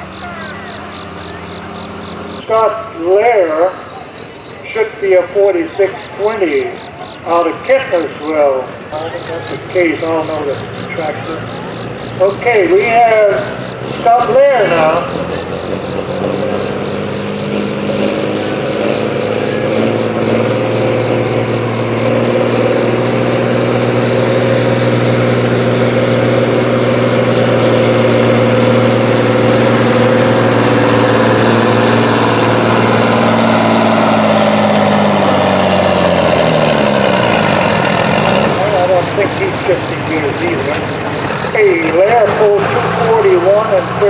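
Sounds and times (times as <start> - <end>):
tractor engine under full load: 0.0 - 44.0.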